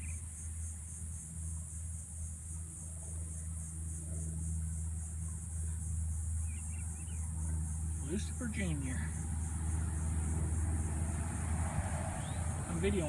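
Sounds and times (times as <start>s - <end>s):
insects shrilling: 0.0s - 13.0s
steady low hum: 0.0s - 13.0s.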